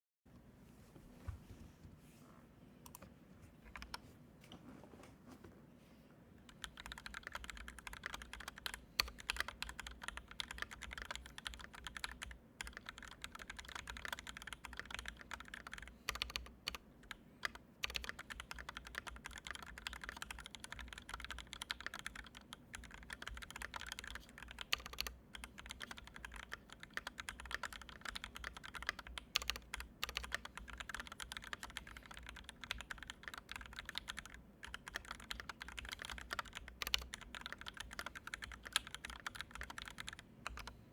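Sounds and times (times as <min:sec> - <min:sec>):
mechanical keyboard typing: 0:06.5 - 0:40.8.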